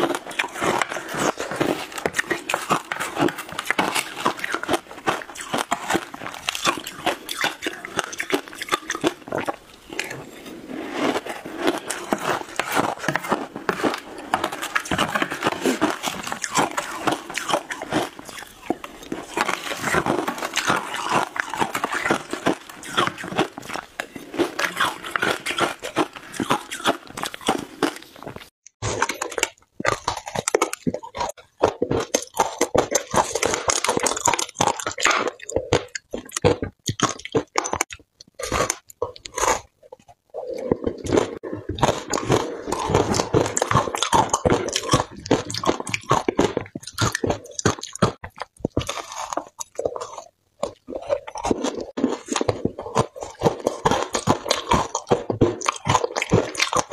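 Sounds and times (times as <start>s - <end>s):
ice being chewed and crunched: 0.0s - 56.9s.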